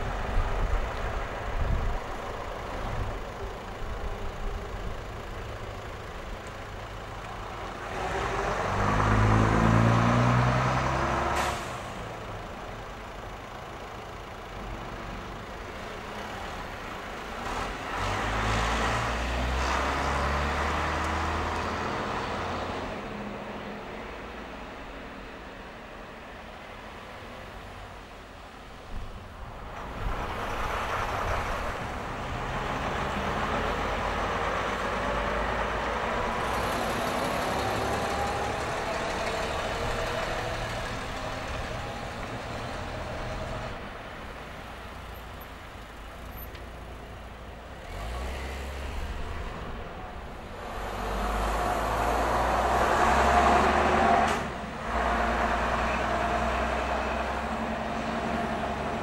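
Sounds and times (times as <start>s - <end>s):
buses and cars driving past: 0.0s - 59.0s.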